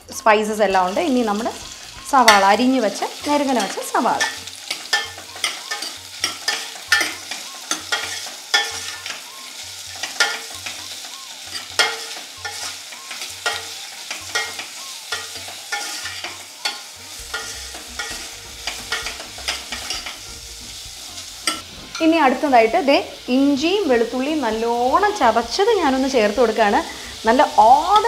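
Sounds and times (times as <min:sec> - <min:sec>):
onions sizzling: 0:00.0 - 0:28.0.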